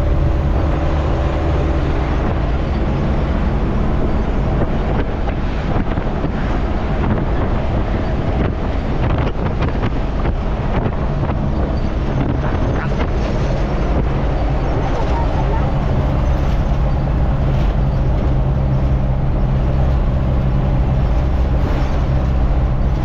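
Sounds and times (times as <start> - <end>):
road noise: 0.0 - 23.0
truck engine hum: 0.0 - 23.0
wind noise: 0.0 - 23.0.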